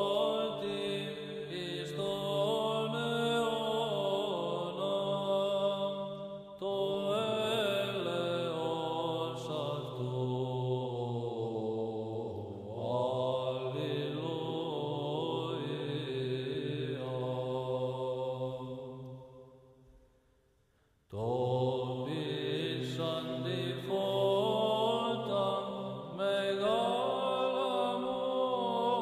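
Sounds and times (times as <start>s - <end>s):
person chanting: 0.0s - 19.6s, 21.1s - 29.0s.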